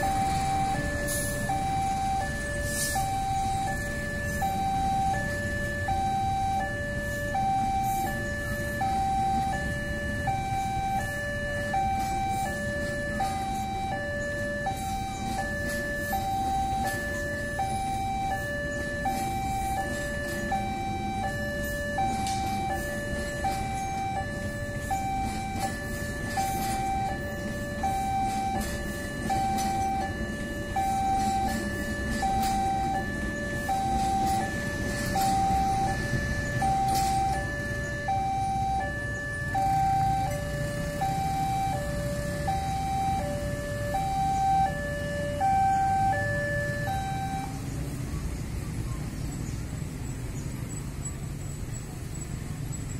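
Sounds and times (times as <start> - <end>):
level crossing two-tone alarm: 0.0 - 47.8
passing train rumble: 0.0 - 52.9.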